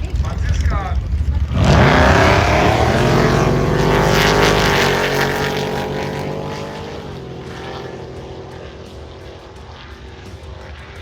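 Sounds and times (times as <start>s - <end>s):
drag racing car engine accelerating: 0.0s - 11.0s.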